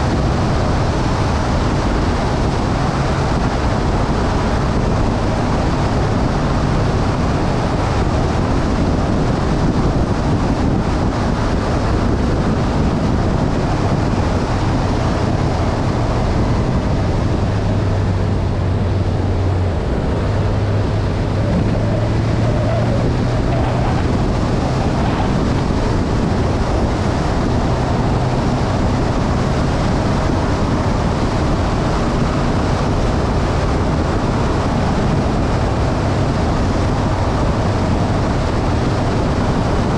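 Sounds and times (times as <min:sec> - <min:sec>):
motorbike engine cruising: 0:00.0 - 0:39.9
wind noise on microphone: 0:00.0 - 0:39.9.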